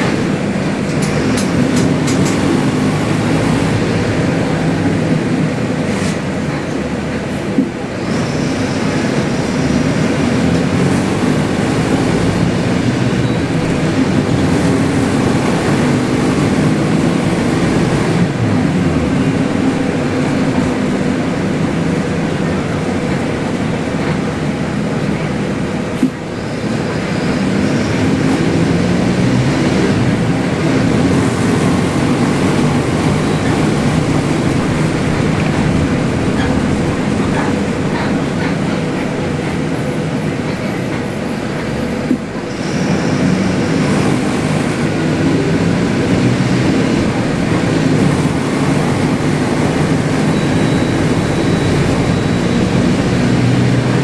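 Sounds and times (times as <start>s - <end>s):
bus diesel engine droning: 0.0s - 54.0s
road noise: 0.0s - 54.0s.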